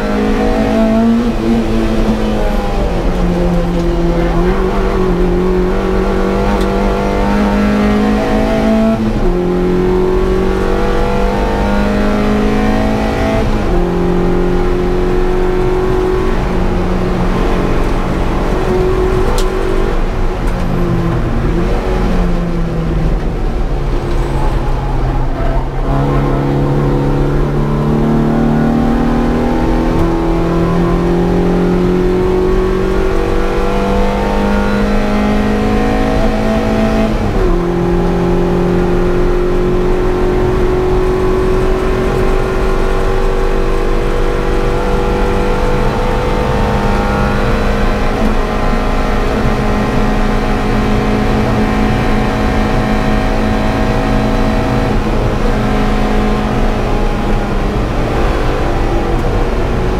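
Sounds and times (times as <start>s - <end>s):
car engine revving at high revs: 0.0s - 59.9s.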